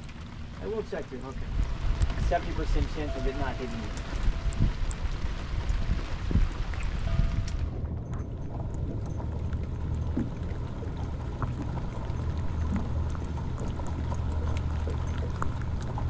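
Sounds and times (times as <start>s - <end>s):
boat engine humming: 0.0s - 16.0s
rain ticking: 0.0s - 16.0s.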